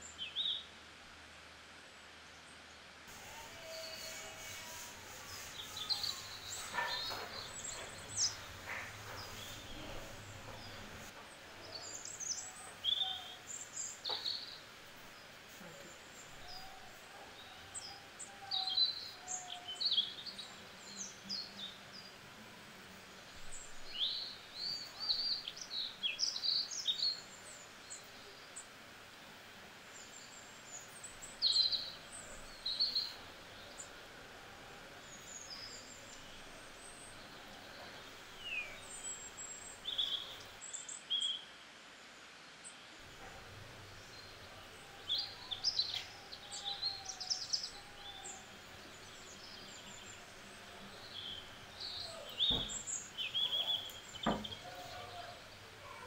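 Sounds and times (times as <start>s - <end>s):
steady soft hiss: 0.0s - 56.0s
small birds chirping: 3.6s - 41.6s, 42.6s - 56.0s.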